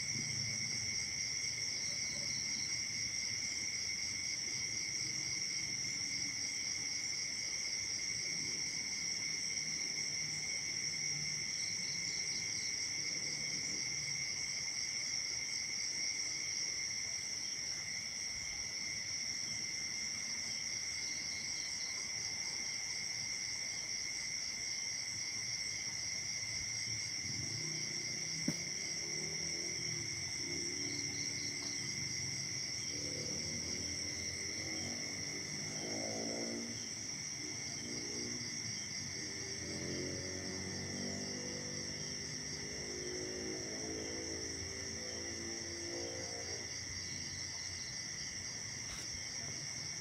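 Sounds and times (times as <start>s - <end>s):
crickets and insects chirping: 0.0s - 50.0s.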